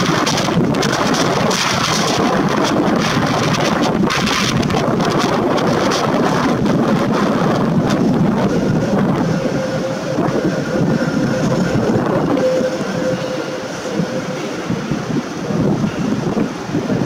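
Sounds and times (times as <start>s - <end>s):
locomotive cooling blowers rushing: 0.0s - 17.0s.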